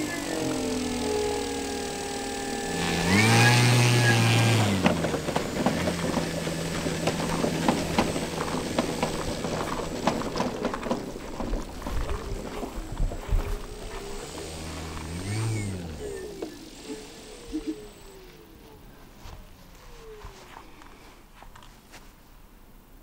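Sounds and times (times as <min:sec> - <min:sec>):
electric motor propeller whine: 0:00.0 - 0:20.8.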